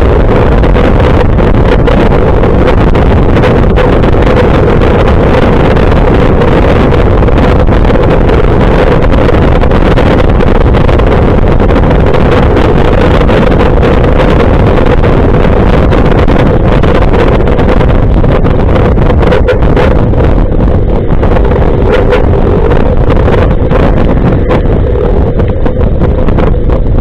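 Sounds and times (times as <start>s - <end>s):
motorcycle engine drone: 0.0s - 27.0s
wind buffeting microphone: 0.0s - 27.0s.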